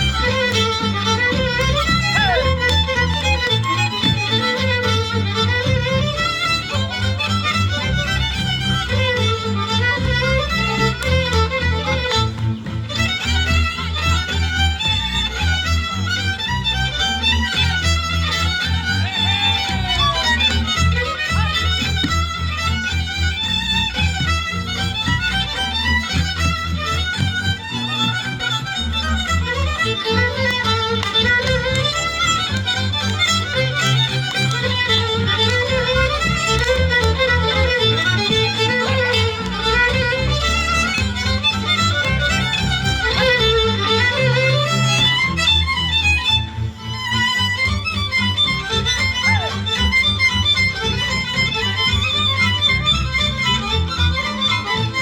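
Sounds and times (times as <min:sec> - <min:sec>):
fiddle playing quick notes: 0:00.0 - 0:55.0
pulsing bass line: 0:00.0 - 0:55.0.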